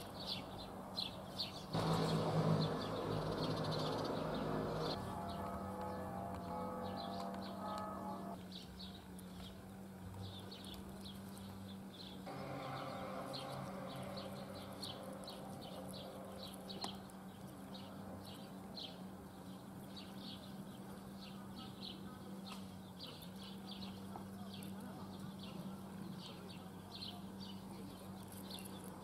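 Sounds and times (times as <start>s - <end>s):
constant low hum: 0.0s - 29.0s.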